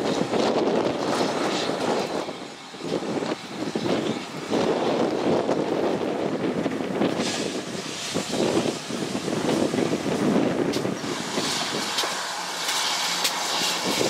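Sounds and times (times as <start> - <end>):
train wheels rumbling on rails: 0.0 - 14.0
wind buffeting microphone: 0.0 - 14.0.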